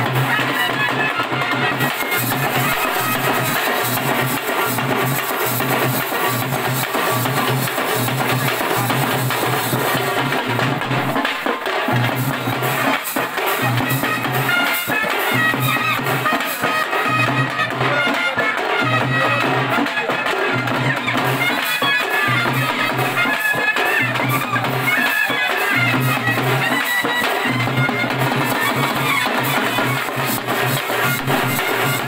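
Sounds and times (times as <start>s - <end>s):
drums beaten with sticks: 0.0s - 32.0s
wind instrument melody: 0.0s - 32.0s.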